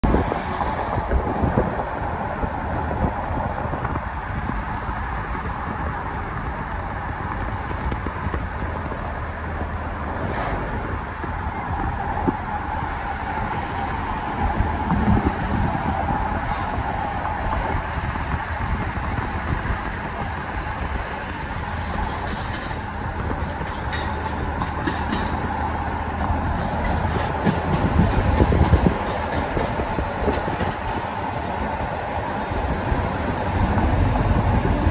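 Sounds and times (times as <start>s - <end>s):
car road rumble from inside: 0.0s - 29.0s, 32.6s - 34.9s
train rumble: 0.0s - 34.9s.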